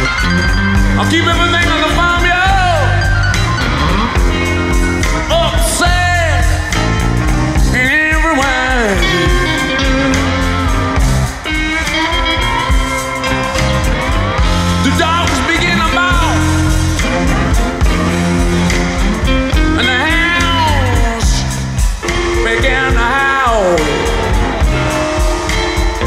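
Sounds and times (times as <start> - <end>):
bass: 0.0 - 26.0
drums: 0.0 - 26.0
electric guitars: 0.0 - 26.0
man singing: 0.9 - 3.3, 5.0 - 6.8, 7.6 - 13.6, 14.2 - 26.0.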